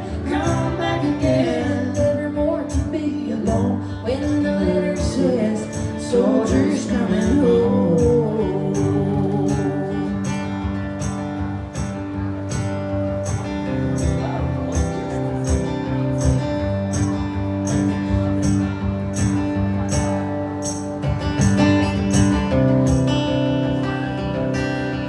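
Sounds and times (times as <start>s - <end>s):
strummed acoustic guitar: 0.0s - 25.0s
percussion hits: 2.7s - 23.8s.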